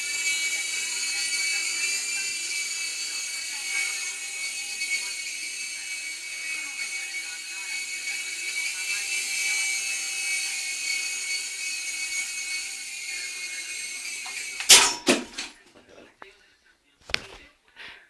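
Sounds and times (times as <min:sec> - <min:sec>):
helicopter engine whine: 0:00.0 - 0:14.7.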